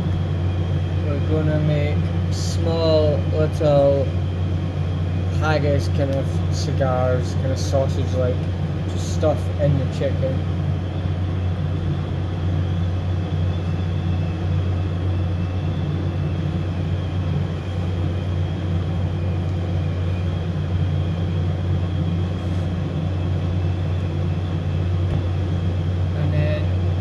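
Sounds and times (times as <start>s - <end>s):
kitchen machinery humming: 0.0s - 27.0s.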